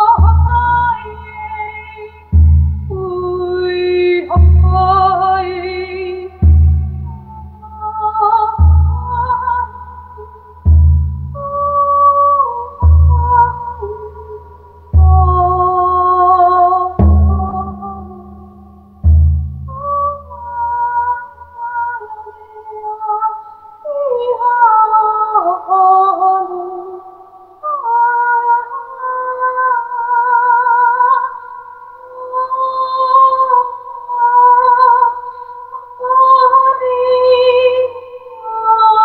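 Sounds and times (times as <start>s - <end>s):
woman singing wordless held notes: 0.0s - 10.7s, 11.4s - 18.9s, 19.7s - 39.0s.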